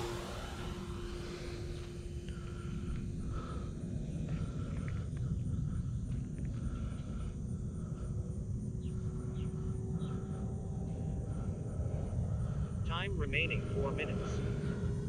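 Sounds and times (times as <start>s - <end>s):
model airplane motor drone: 0.0s - 15.0s.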